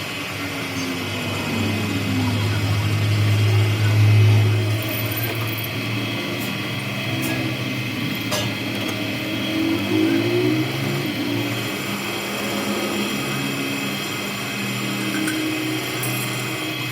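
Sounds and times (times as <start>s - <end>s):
low machine hum: 0.0s - 16.9s.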